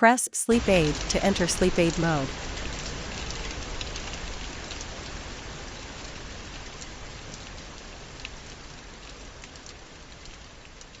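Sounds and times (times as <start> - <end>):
recorded rainfall hiss from speaker: 0.0 - 11.0.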